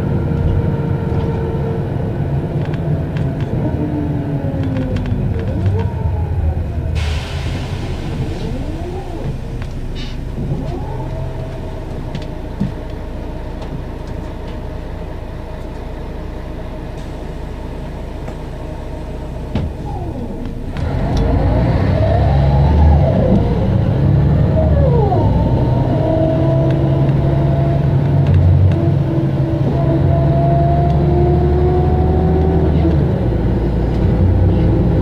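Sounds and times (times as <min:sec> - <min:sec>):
bus engine hum: 0:00.0 - 0:35.0.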